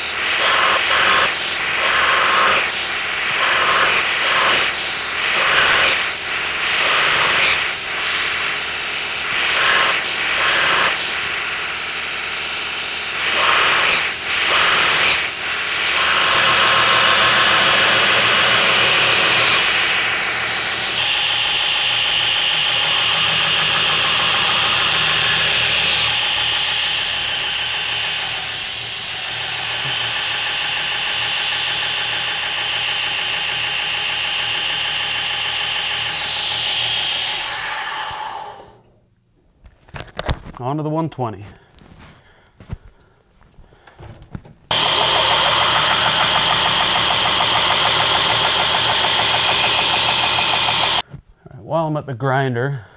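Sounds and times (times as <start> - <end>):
belt grinder grinding steel blade: 0.0 - 38.7, 44.7 - 51.0.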